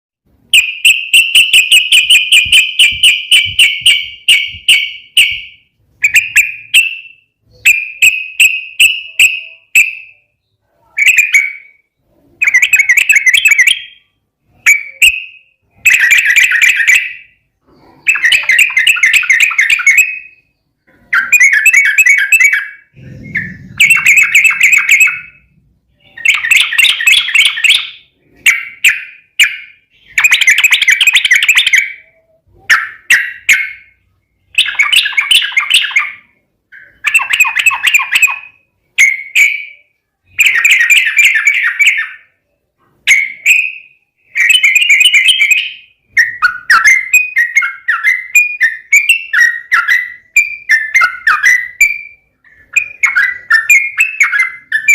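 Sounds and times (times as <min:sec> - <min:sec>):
bulbul singing: 0:00.4 - 0:54.9.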